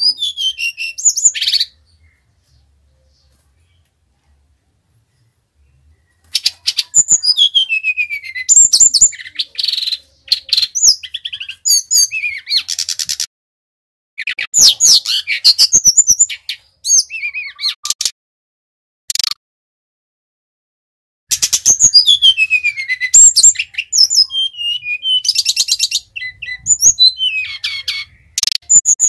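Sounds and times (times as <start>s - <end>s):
bird singing: 0.0s - 4.0s, 5.0s - 13.3s, 14.2s - 17.9s, 21.3s - 29.0s.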